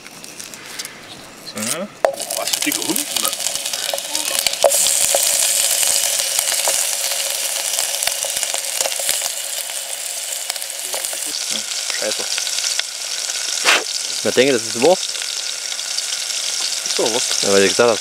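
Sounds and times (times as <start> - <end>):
sausage sizzling in a pan: 1.5 - 18.0.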